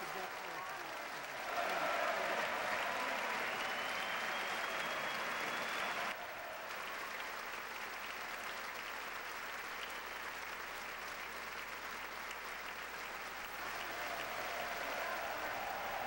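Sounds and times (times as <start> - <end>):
crowd applause: 0.0 - 16.0.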